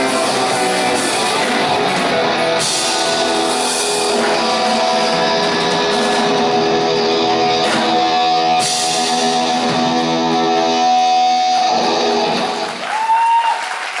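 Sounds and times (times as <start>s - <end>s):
rock band sustained guitar chord: 0.0s - 12.8s.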